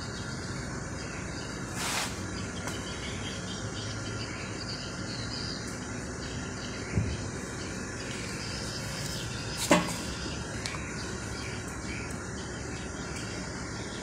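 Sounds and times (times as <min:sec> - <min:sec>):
faint insect chirping: 0:00.0 - 0:14.0.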